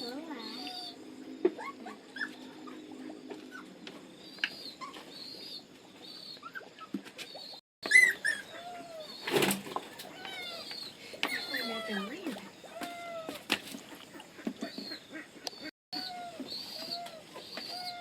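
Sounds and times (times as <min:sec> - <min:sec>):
small animals squeaking: 0:00.0 - 0:13.5, 0:14.1 - 0:18.0.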